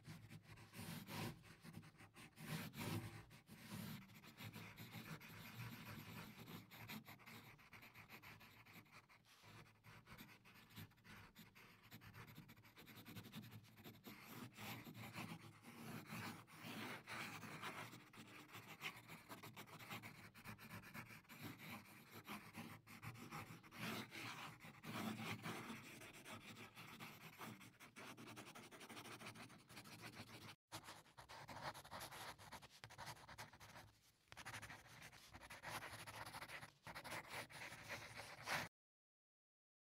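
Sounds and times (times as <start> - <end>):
pencil scratching on paper: 0.0 - 38.7.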